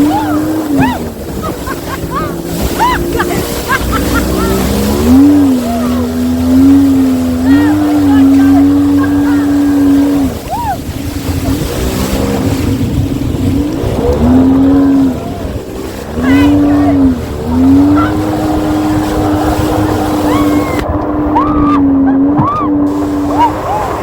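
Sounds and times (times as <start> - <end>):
jet ski engine running: 0.0 - 24.0.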